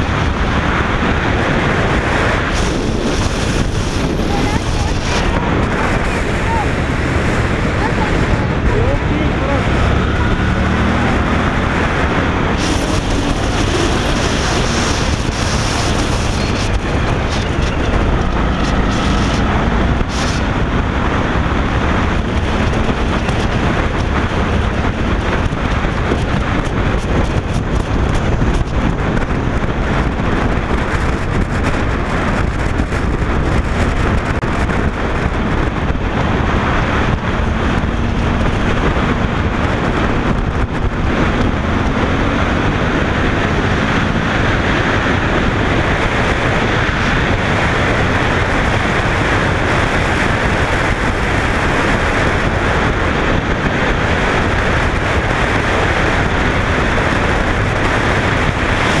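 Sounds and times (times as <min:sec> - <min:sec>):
motorcycle engine drone: 0:00.0 - 0:59.0
wind buffeting microphone: 0:00.0 - 0:59.0.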